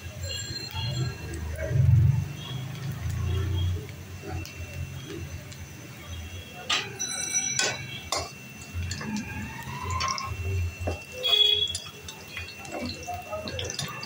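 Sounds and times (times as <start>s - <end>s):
vegetables bubbling in oil: 0.0s - 14.0s.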